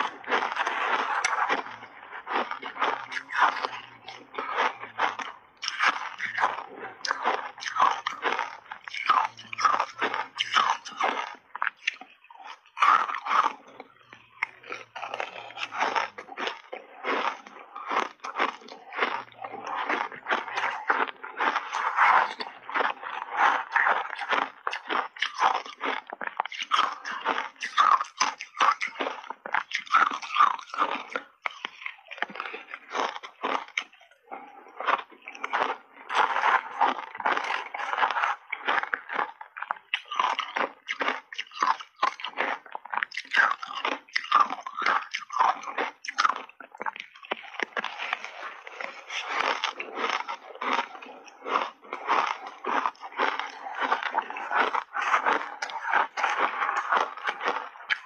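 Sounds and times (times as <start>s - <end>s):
mouth crunching ice: 0.0s - 58.0s.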